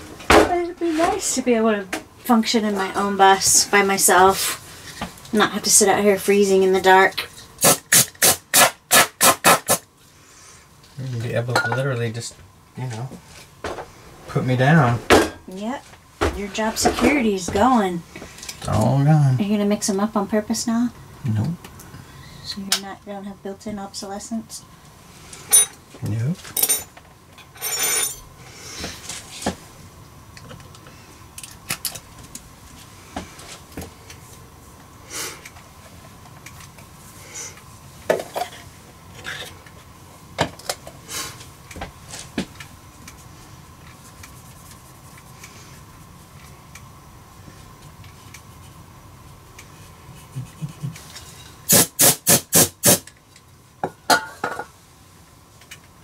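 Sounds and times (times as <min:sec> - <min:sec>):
faint high hum: 0:00.0 - 0:56.0.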